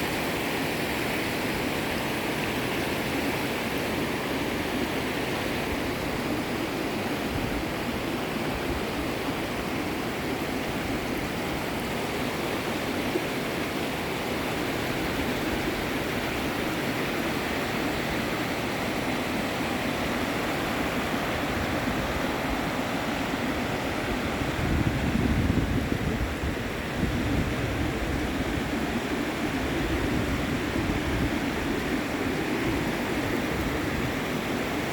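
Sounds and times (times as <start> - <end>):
river rapids rushing: 0.0 - 34.9.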